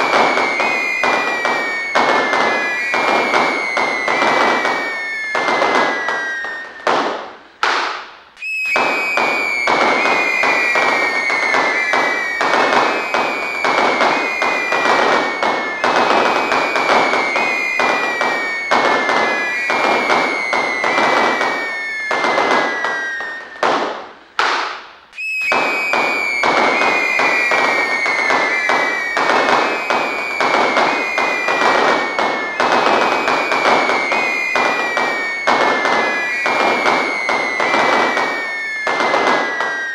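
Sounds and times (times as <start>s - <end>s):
descending firework whistles: 0.0s - 39.9s
fireworks crackling: 0.0s - 39.9s.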